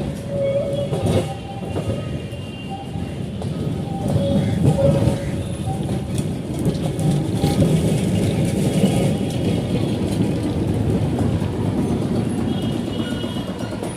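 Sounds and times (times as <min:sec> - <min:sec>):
electric tram rumbling and rattling: 0:00.0 - 0:13.9.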